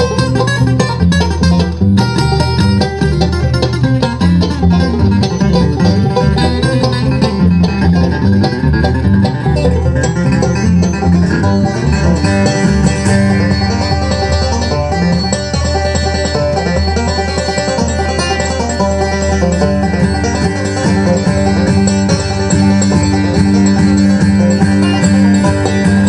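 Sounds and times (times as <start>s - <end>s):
bluegrass string band playing: 0.0s - 26.0s.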